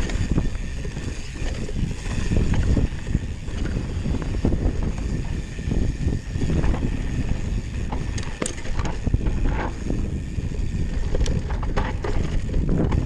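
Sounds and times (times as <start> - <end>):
bike rattles: 0.0 - 13.0
wind buffeting microphone: 0.0 - 13.0.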